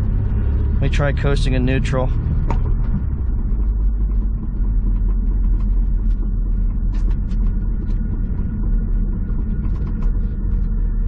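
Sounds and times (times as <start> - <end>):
car engine idling: 0.0 - 11.0
road and drivetrain rumble: 0.0 - 11.0.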